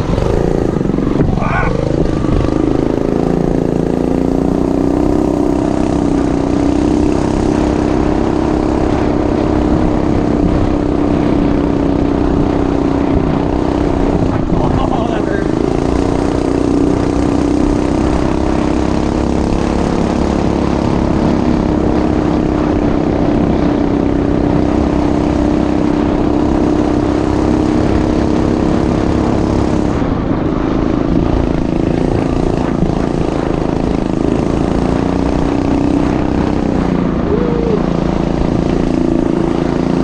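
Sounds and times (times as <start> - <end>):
vehicle engine droning: 0.0 - 40.0.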